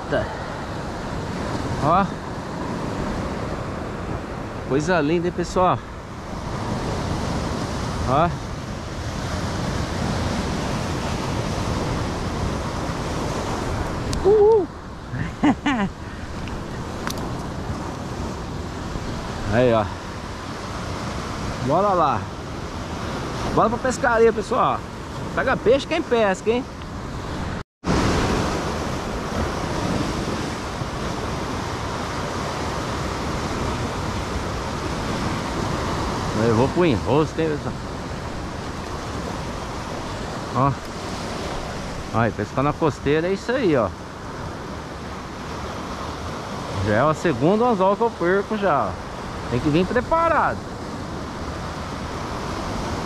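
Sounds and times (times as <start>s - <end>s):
wind on microphone: 0.0s - 42.7s
surf washing over rocks: 0.0s - 53.0s.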